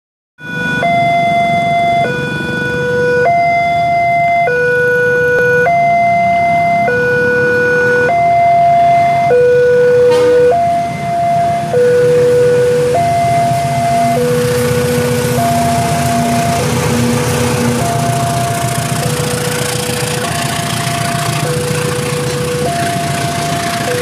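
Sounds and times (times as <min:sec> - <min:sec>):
two-tone crossing alarm: 0:00.4 - 0:24.0.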